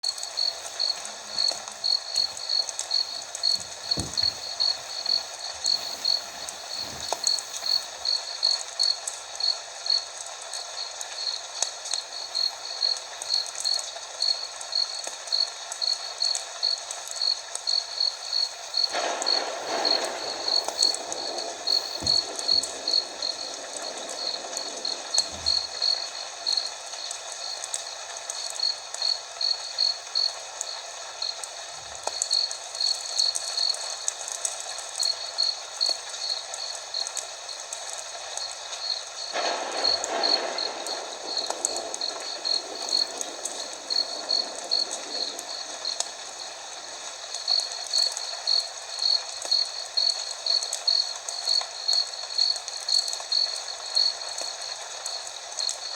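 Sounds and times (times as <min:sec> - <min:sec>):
fire crackling: 0:00.0 - 0:55.9
rain hissing: 0:00.0 - 0:55.9.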